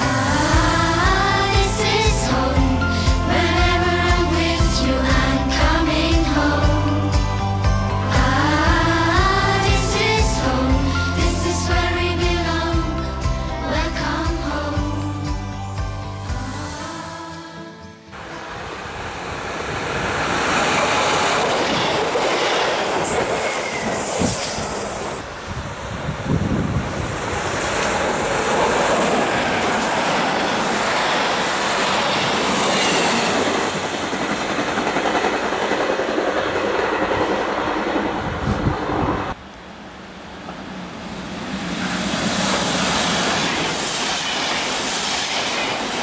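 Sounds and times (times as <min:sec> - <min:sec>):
electric train passing: 0:00.0 - 0:46.0.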